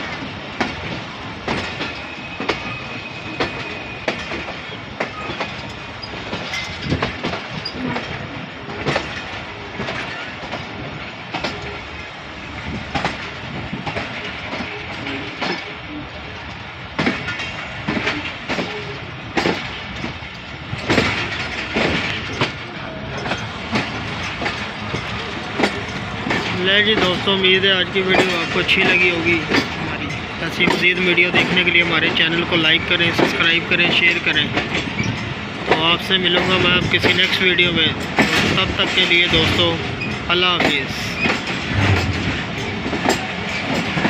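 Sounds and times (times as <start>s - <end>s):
train rumble: 0.0s - 44.0s
train wheels clicking over rail joints: 0.0s - 44.0s.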